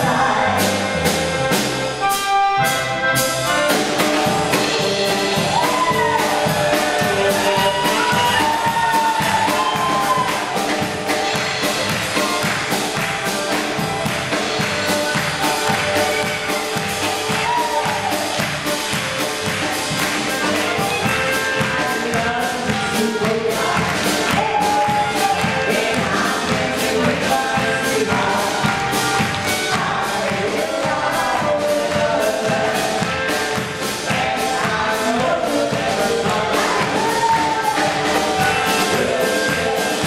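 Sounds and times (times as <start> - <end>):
live dance band playing: 0.0 - 40.0
steady drum beat: 0.0 - 40.0.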